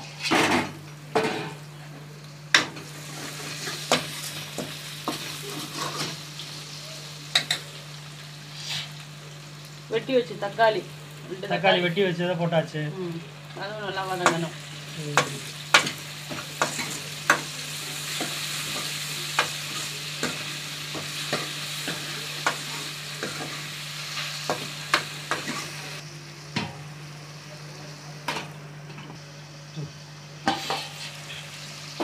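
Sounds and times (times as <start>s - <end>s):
food sizzling in oil: 2.4s - 32.0s.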